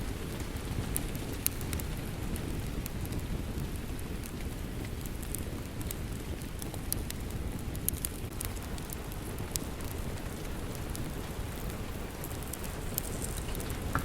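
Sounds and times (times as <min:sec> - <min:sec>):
steady rain: 0:00.0 - 0:14.0
wood fire crackling and popping: 0:00.0 - 0:14.0.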